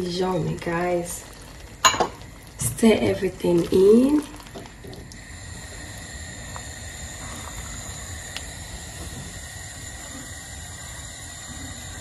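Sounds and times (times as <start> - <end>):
sauce simmering on stove: 0.0 - 12.0.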